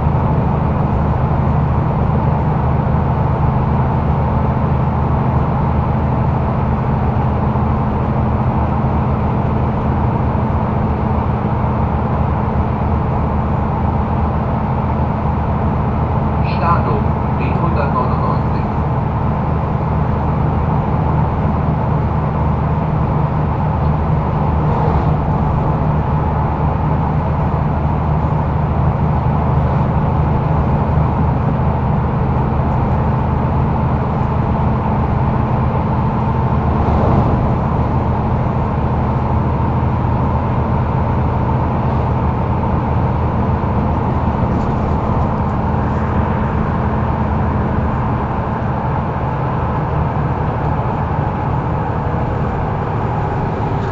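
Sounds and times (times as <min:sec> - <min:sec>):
bus diesel engine running: 0:00.0 - 0:53.9
road noise: 0:00.0 - 0:53.9.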